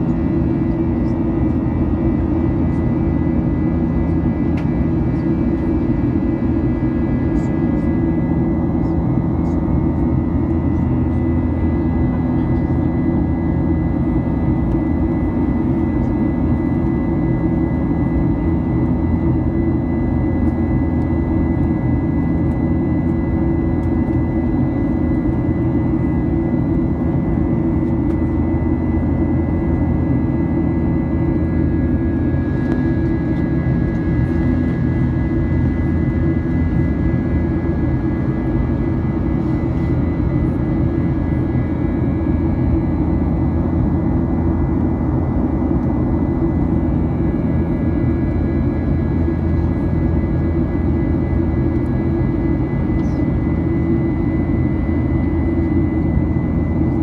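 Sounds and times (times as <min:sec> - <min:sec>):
engine and airflow rumble: 0:00.0 - 0:57.0.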